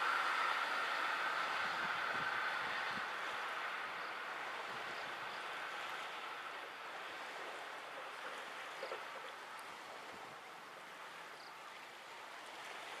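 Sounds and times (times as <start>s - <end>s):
distant electric train running: 0.0s - 11.5s.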